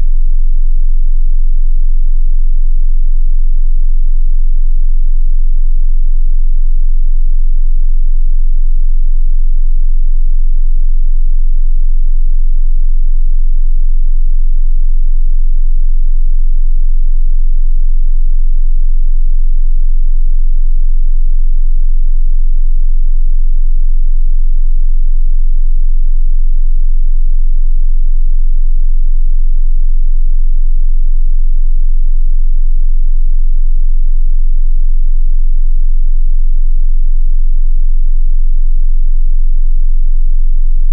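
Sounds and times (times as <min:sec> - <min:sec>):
deep bass sine tone: 0:00.0 - 0:40.9.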